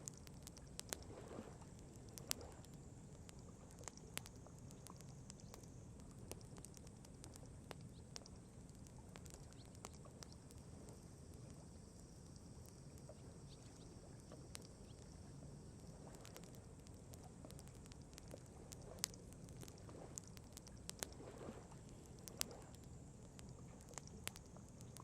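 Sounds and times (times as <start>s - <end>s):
campfire crackling: 0.0s - 25.0s
faint low rumble: 0.0s - 25.0s.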